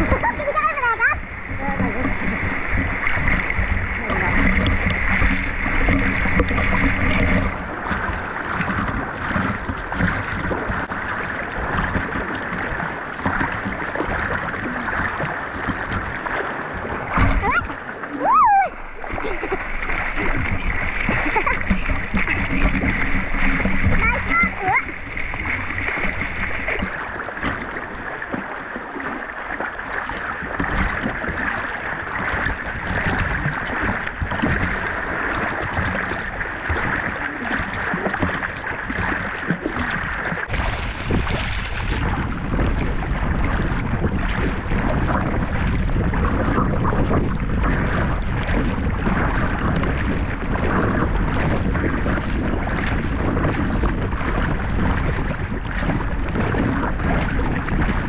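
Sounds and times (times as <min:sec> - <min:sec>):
water splashing from swimming strokes: 0:00.0 - 0:58.0
wind rumbling on microphone: 0:00.0 - 0:58.0.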